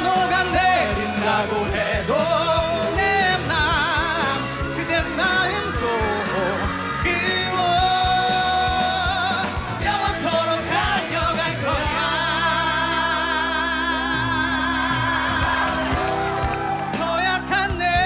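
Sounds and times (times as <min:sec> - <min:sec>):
man singing with vibrato: 0:00.0 - 0:18.0
pop-rock band playing: 0:00.0 - 0:18.0.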